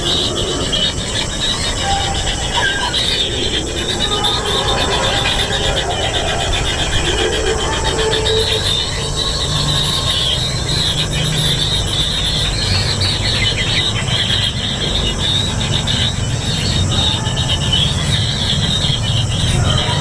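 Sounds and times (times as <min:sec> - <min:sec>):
nestlings rasping begging calls: 0:00.0 - 0:20.0.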